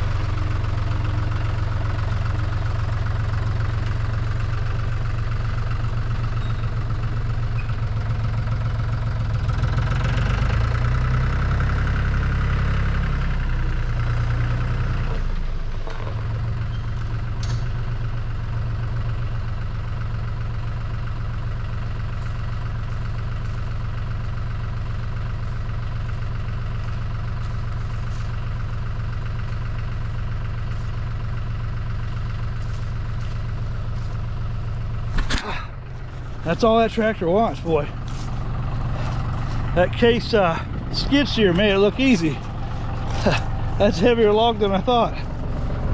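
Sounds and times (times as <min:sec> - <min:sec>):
tractor engine working hard: 0:00.0 - 0:45.9.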